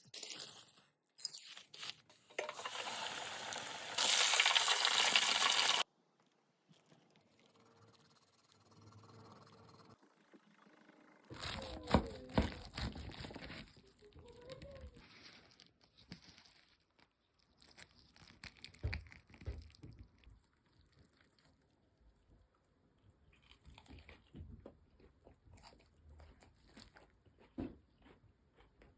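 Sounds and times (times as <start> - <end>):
crunching and chewing food: 0.0 - 8.6, 11.3 - 28.9.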